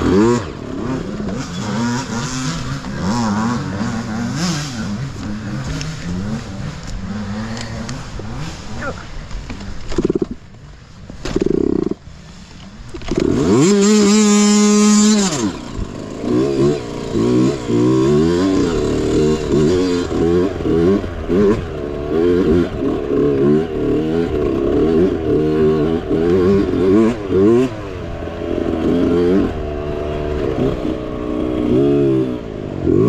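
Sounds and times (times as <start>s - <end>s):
small engine revving: 0.0s - 10.4s, 11.2s - 33.0s.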